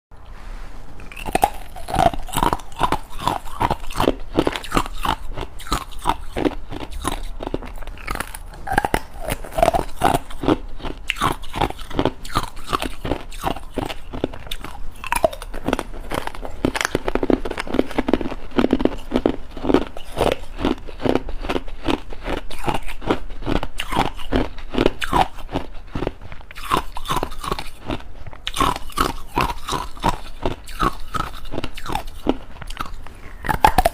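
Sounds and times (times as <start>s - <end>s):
ice being chewed: 1.0s - 33.9s.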